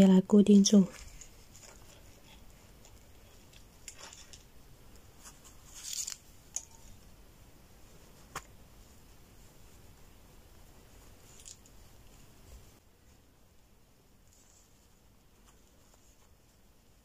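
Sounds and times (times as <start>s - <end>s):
cord rustling in fingers: 0.5s - 7.1s, 7.8s - 13.3s, 14.2s - 17.0s.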